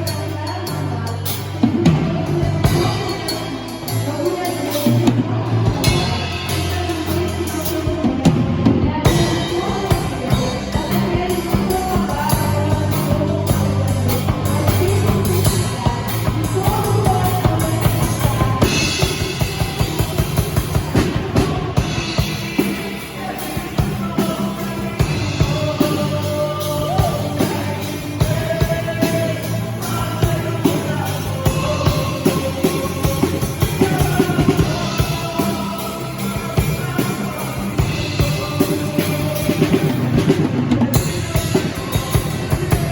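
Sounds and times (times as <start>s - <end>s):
bass notes: 0.0s - 42.9s
drum kit beat: 0.0s - 42.9s
live band playing: 0.0s - 42.9s
person singing: 0.0s - 42.9s.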